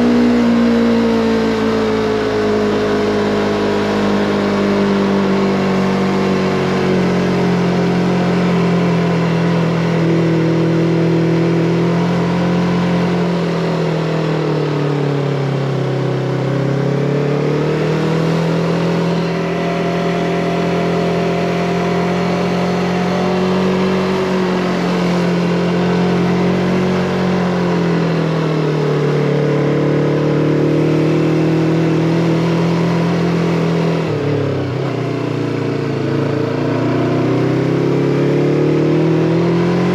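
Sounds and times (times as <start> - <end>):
motorcycle engine pulling uphill: 0.0 - 39.9.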